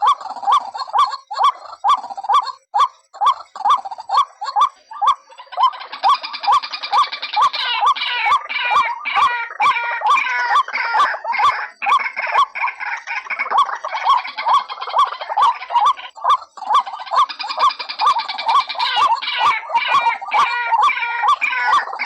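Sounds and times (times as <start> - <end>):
waterhens calling: 0.0 - 22.0.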